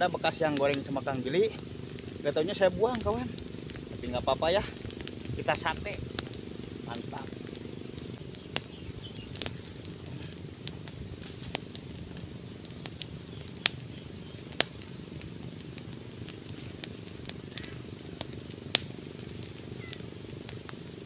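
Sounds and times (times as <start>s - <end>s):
fire crackling: 0.0s - 21.0s
low rumble: 0.0s - 21.0s.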